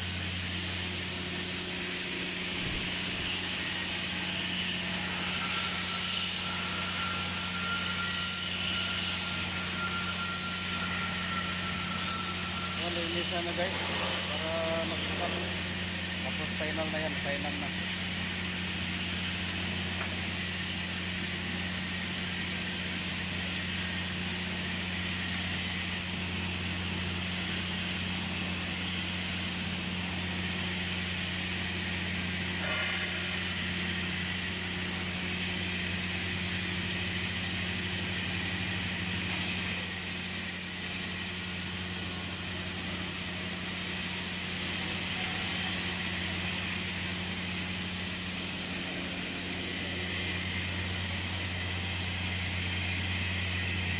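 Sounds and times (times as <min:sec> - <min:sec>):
welding machine humming with hiss: 0:00.0 - 0:53.9.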